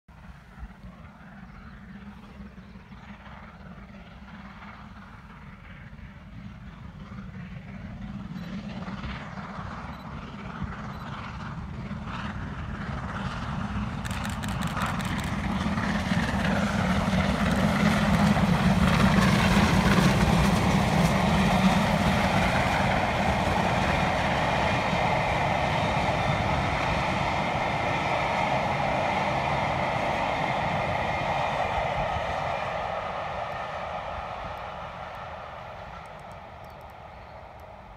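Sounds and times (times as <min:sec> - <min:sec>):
rolling train coaches: 0:00.1 - 0:37.9
steam locomotive exhaust beats: 0:00.1 - 0:37.9.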